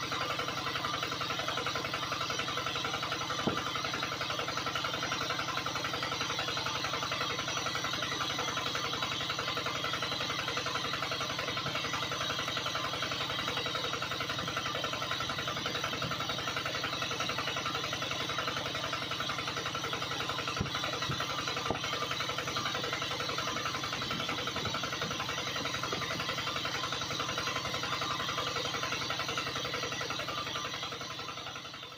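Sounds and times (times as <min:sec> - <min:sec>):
small water pump motor buzzing: 0:00.0 - 0:31.9.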